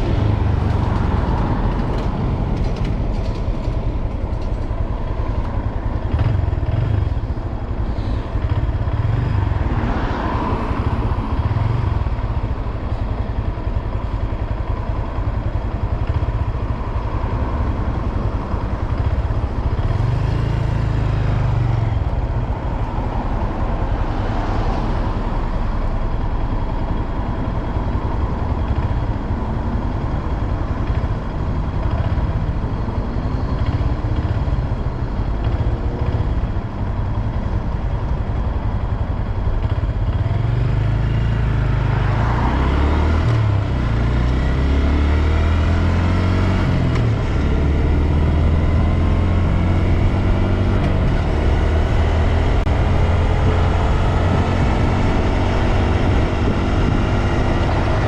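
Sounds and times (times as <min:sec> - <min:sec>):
motorcycle engine running: 0:00.0 - 0:58.0
wind and road rush: 0:00.0 - 0:58.0.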